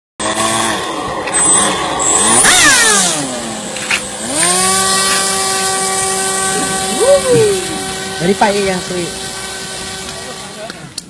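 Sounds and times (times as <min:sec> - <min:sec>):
model aeroplane propeller motor: 0:00.2 - 0:11.0.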